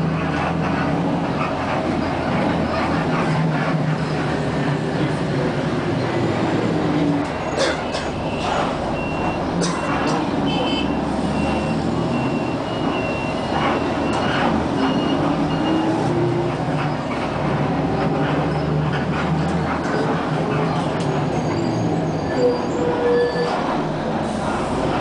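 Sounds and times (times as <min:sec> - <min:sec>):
vehicle humming: 0:00.0 - 0:25.0.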